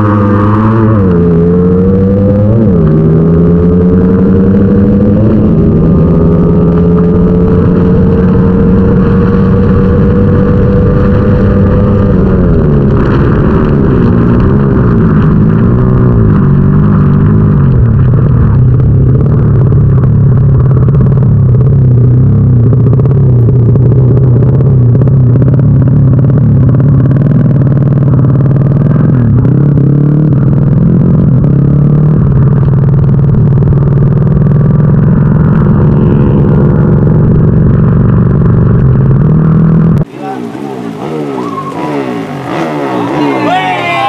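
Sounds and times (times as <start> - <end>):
racing motorcycle engine revving: 0.0 - 44.0.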